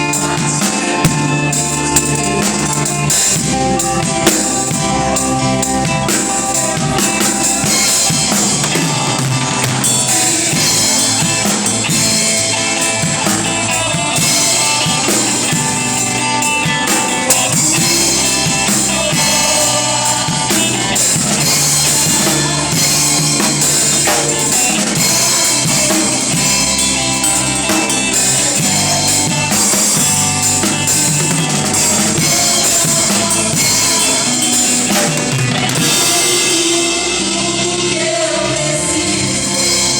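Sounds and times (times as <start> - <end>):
drum kit steady beat: 0.0 - 39.9
instrumental band music: 0.0 - 39.9.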